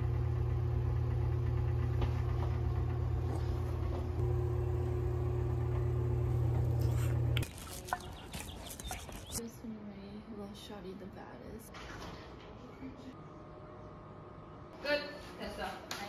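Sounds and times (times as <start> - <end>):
machine mechanical hum: 0.0 - 9.4, 11.6 - 15.7.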